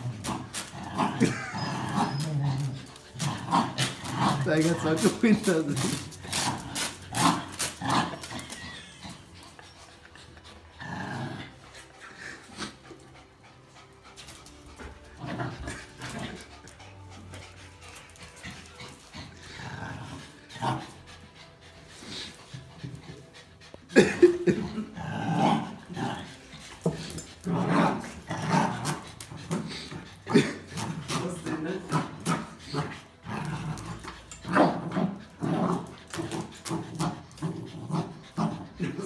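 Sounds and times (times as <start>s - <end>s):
dogs growling: 0.0s - 39.0s
dogs panting: 0.0s - 39.0s.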